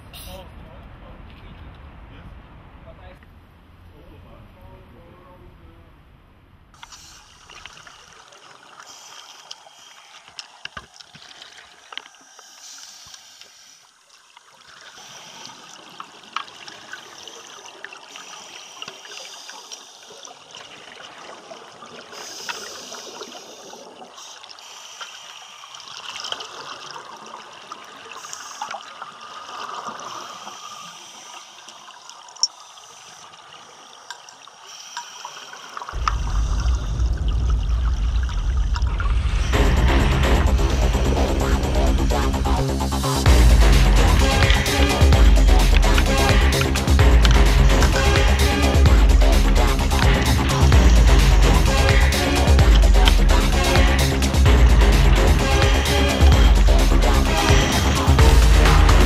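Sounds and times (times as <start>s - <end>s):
underwater bubbles hissing: 11.3s - 59.0s.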